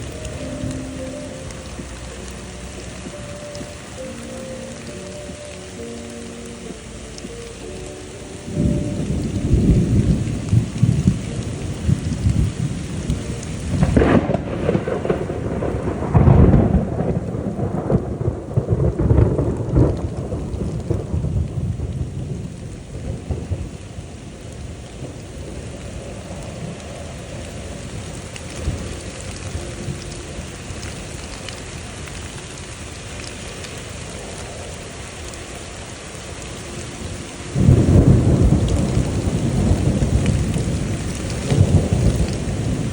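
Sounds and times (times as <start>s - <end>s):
thunder rumbling and cracking: 0.0s - 7.5s, 8.4s - 42.9s
heavy rain: 0.0s - 42.9s.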